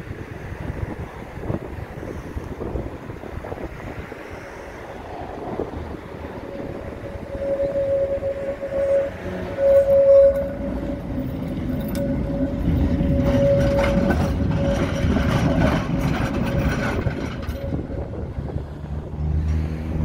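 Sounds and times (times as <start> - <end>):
tram whine: 0.0 - 20.0
tram wheels clattering over rails: 1.1 - 19.6.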